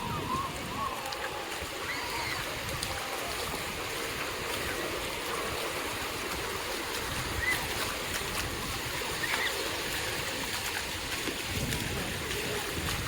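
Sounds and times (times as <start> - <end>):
ocean surf on beach: 0.0 - 13.0.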